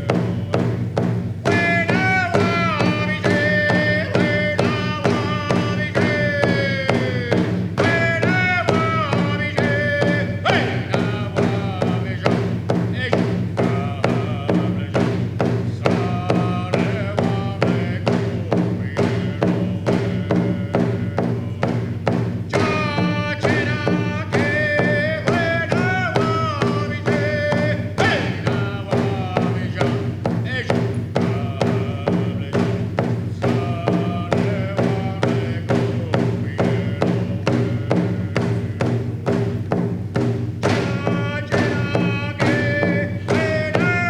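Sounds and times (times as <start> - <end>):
music with driving beat: 0.0 - 44.0.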